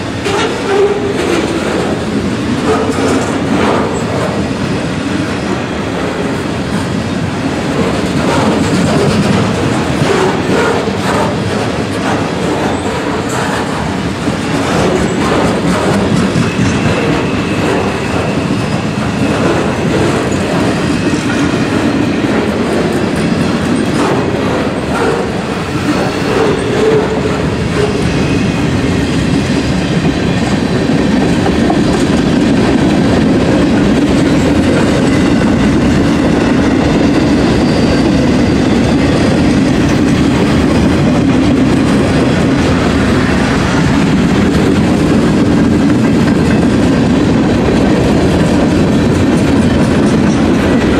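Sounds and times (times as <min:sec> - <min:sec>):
freight train wheels rolling: 0:00.0 - 0:50.9.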